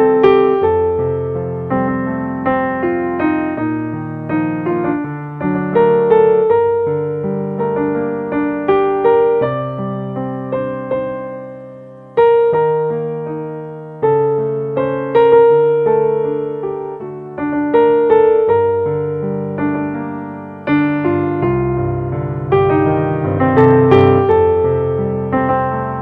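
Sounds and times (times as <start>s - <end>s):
slow ambient piano: 0.0s - 26.0s.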